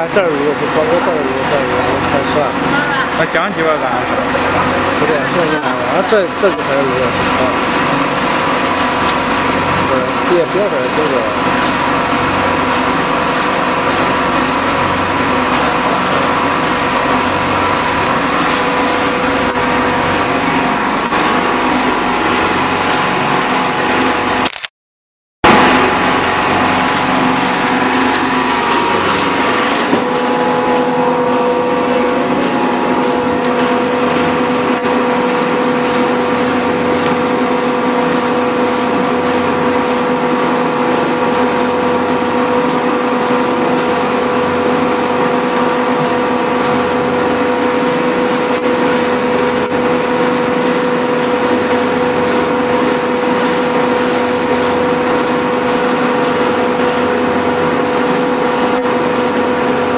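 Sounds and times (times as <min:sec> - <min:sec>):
mixer machine humming: 0:00.0 - 0:24.5, 0:25.4 - 0:59.9.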